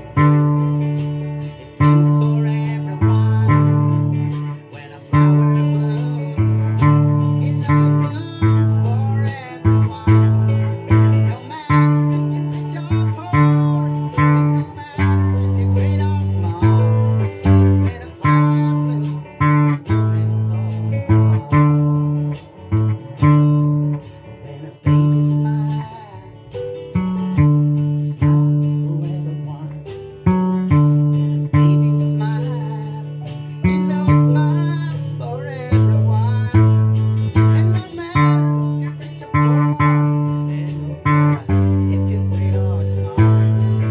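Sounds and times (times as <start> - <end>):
plucked ukulele bass line: 0.0 - 43.9.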